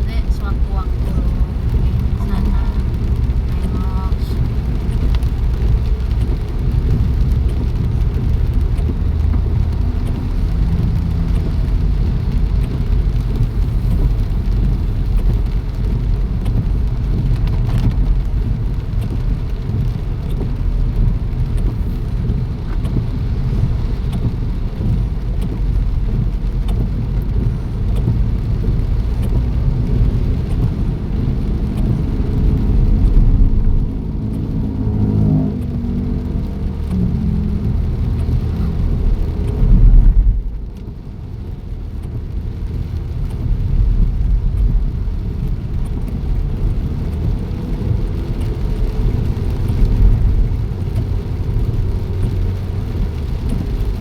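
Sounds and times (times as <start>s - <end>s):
deep rumble: 0.0s - 54.0s
steady rain: 0.0s - 54.0s.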